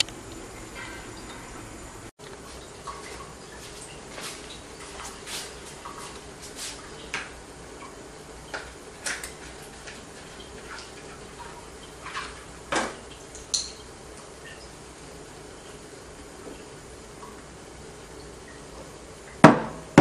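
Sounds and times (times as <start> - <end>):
distiller humming: 0.0 - 20.0.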